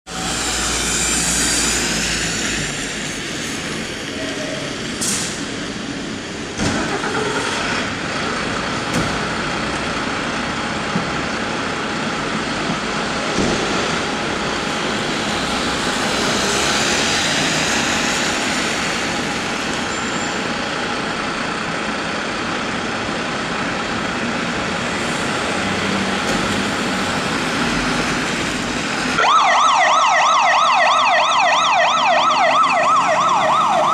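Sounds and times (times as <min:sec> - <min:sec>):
city traffic noise: 0:00.0 - 0:33.9.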